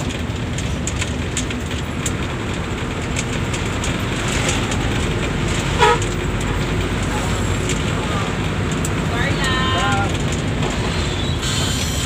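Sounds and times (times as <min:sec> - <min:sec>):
light ticks and rattles: 0:00.0 - 0:10.8
bus engine and road noise: 0:00.0 - 0:12.0.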